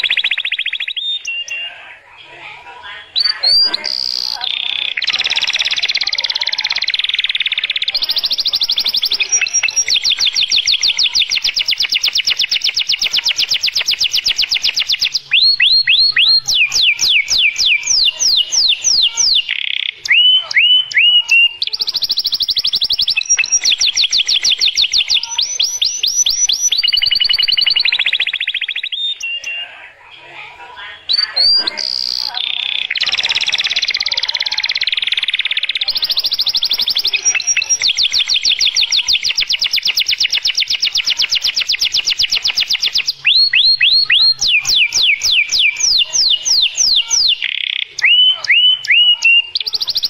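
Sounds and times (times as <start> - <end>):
canary singing trills: 0.0 - 50.0.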